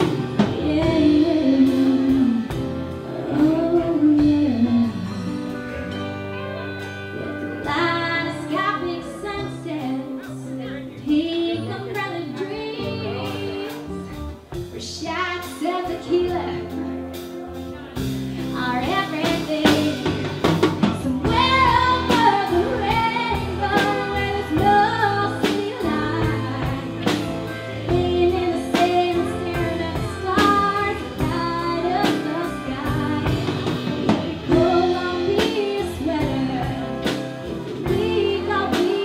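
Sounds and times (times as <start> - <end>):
person singing lead vocal: 0.0 - 5.8, 7.2 - 17.0, 18.3 - 39.0
live band playing: 0.0 - 39.0.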